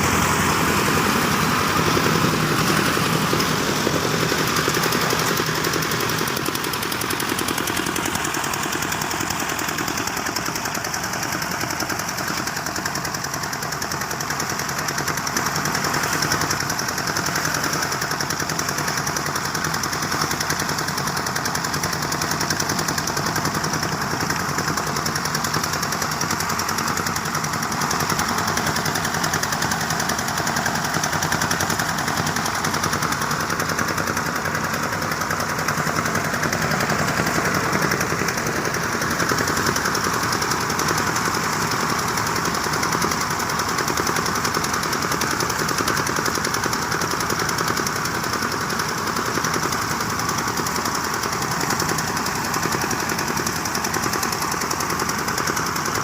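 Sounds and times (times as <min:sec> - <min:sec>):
diesel engine pulsing: 0:00.0 - 0:56.0
threshing drum whirring: 0:00.0 - 0:56.0.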